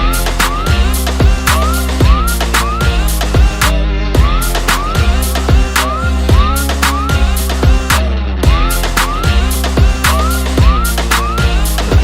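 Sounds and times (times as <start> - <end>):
instrumental dance track: 0.0 - 12.0.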